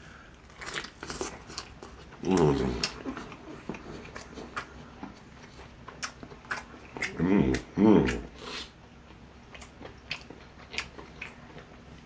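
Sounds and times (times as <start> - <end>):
wet chewing and crunches: 0.3 - 12.0.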